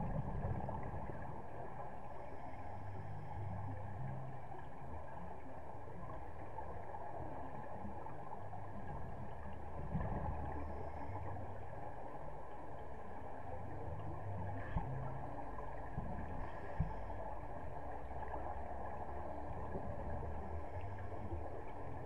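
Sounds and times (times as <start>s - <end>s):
underwater gurgling: 0.0s - 22.0s
underwater low rumble and hum: 0.0s - 22.0s.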